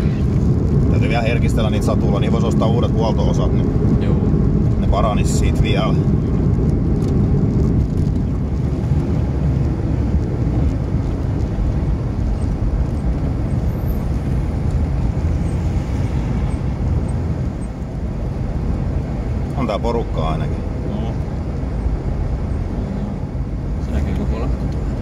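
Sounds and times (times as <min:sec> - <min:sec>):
engine and road rumble in car: 0:00.0 - 0:25.0.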